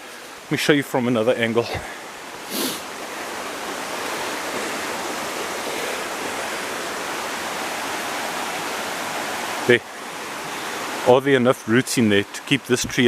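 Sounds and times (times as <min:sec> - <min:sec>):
stream rushing water: 0:00.0 - 0:13.0.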